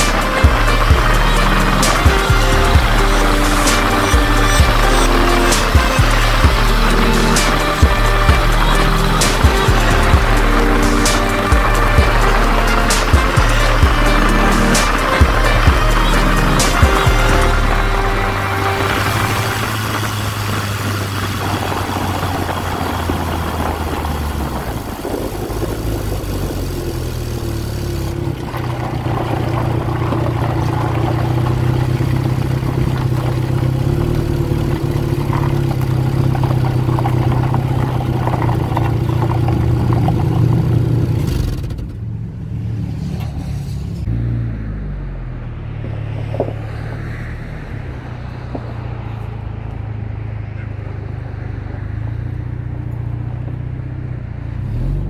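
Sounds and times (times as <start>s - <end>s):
engine idling: 0.0s - 44.1s
road and wind noise: 0.0s - 55.0s
vehicle engine on gravel: 0.0s - 55.0s.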